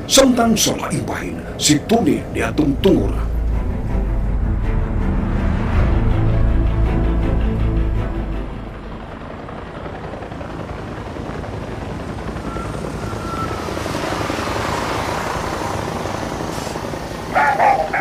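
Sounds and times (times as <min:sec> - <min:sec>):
helicopter rotor chopping: 0:00.0 - 0:04.5, 0:06.1 - 0:18.0.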